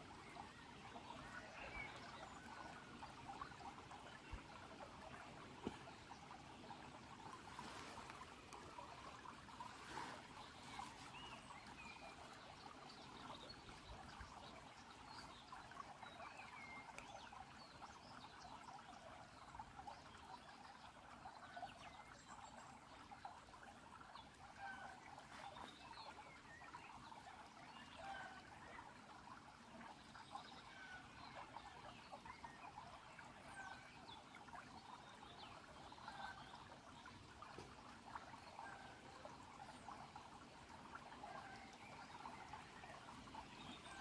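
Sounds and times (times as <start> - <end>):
stream trickling over pebbles: 0.0 - 44.0.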